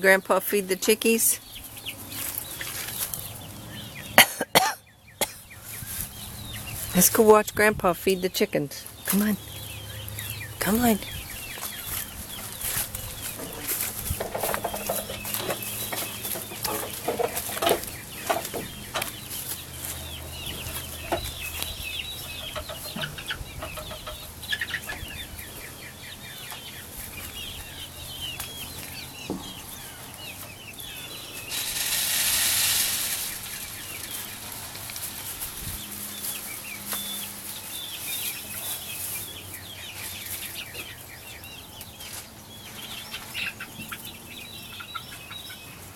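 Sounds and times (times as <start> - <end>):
chickens clucking and cheeping: 0.0 - 45.9.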